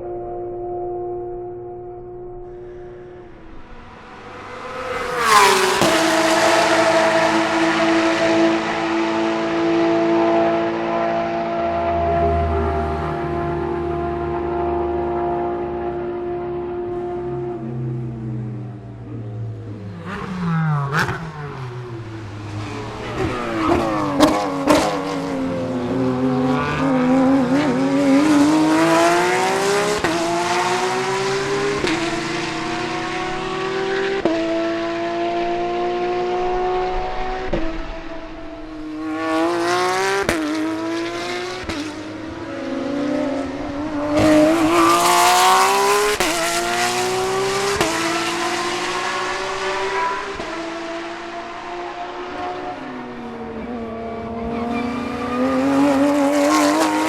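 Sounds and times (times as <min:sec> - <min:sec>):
race car engine revving: 0:02.0 - 0:57.0.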